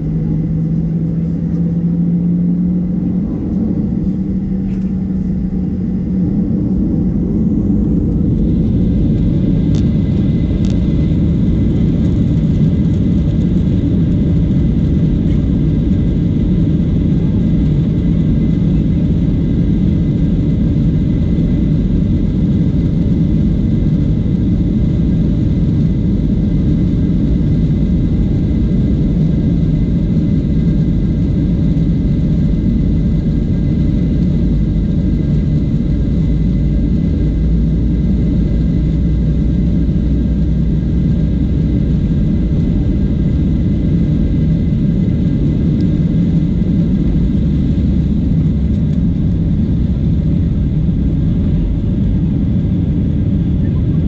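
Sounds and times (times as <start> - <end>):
faint jet engine whine: 0.0 - 54.0
loud low cabin rumble: 0.0 - 54.0.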